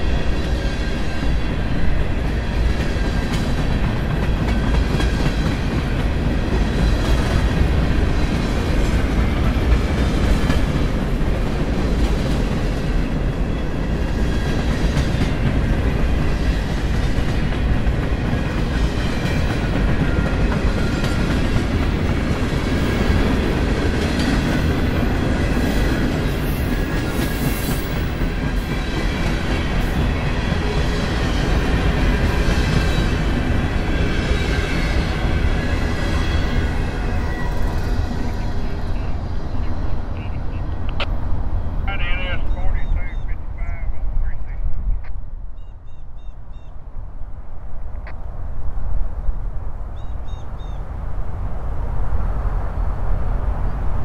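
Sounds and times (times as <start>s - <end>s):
freight train wheels rumbling: 0.0s - 45.0s
rhythmic clickety-clack of rails: 0.0s - 45.2s.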